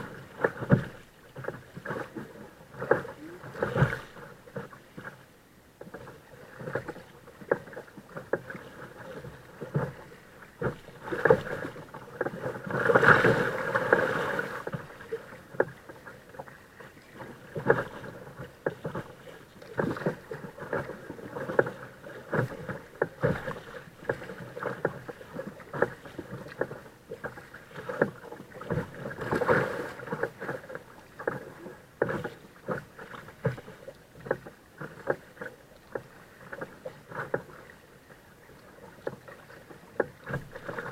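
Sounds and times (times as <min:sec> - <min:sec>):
paddle knocks: 0:00.0 - 0:05.2, 0:05.8 - 0:40.9
paddle splashing water: 0:00.0 - 0:40.9
rushing water: 0:00.0 - 0:40.9.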